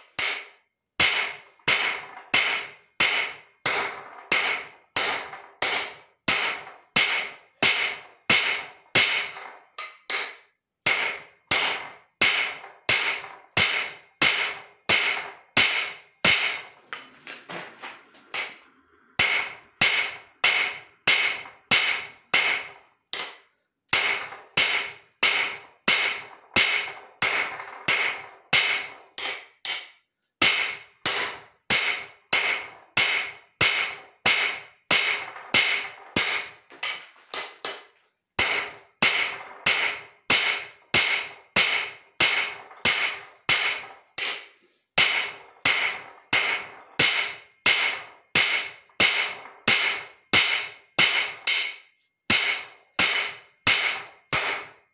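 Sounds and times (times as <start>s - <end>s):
hammer striking steel on anvil: 0.0s - 54.8s.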